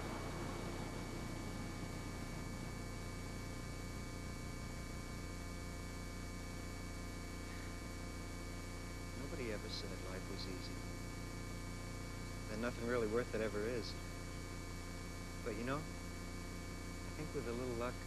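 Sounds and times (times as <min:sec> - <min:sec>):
low electrical hum: 0:00.0 - 0:18.0
tape hiss: 0:00.0 - 0:18.0.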